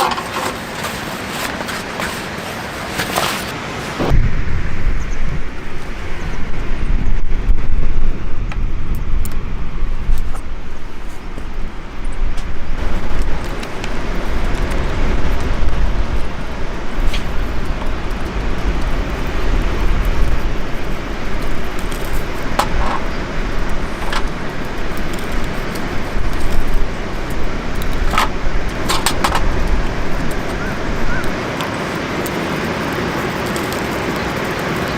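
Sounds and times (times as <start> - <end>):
rushing noise with low rumble: 0.0 - 34.9.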